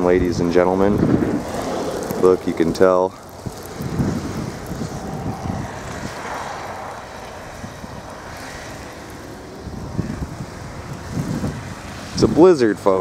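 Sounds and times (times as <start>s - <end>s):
vehicle passing on snowy road: 0.0s - 13.0s
wind buffeting microphone: 0.0s - 13.0s.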